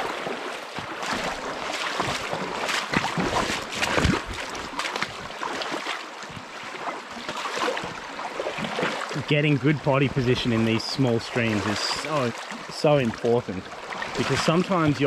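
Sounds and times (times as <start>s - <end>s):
sloshing wading steps: 0.0s - 15.0s
stream riffling over rocks: 0.0s - 15.0s.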